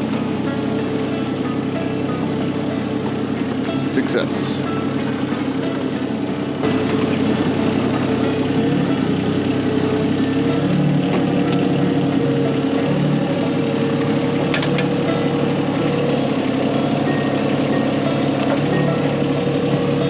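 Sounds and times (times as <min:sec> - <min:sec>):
hydraulic whine: 0:00.0 - 0:20.0
mini excavator diesel engine running: 0:00.0 - 0:20.0.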